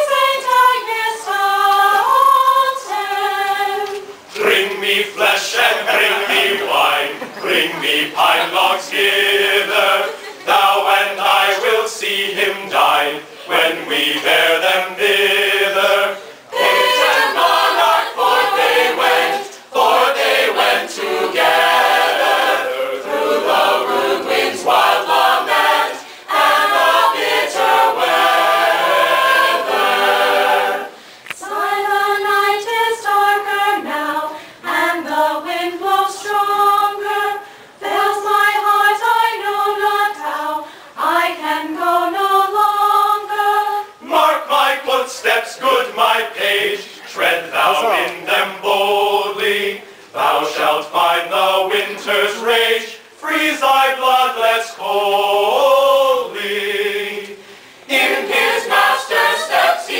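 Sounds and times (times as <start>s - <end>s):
mixed-voice choir singing a cappella: 0.0s - 59.9s.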